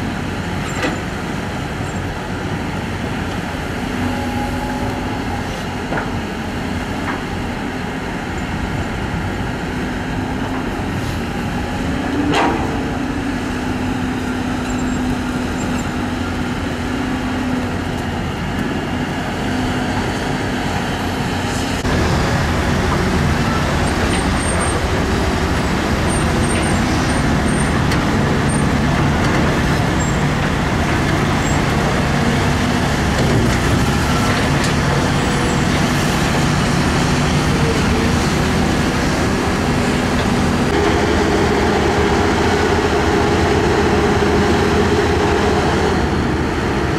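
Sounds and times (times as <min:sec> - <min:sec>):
excavator diesel engines: 0:00.0 - 0:46.9.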